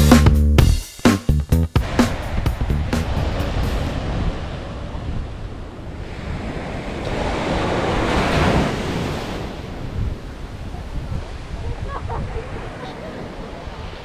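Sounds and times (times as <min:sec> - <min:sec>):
sea waves washing onto beach: 0:01.8 - 0:14.0
wind buffeting microphone: 0:01.8 - 0:14.0.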